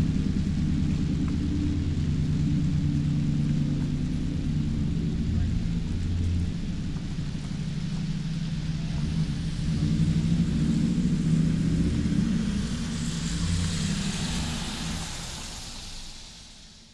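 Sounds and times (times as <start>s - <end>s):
traffic engine rumble: 0.0s - 16.9s
tyre hiss on wet street: 0.0s - 16.9s.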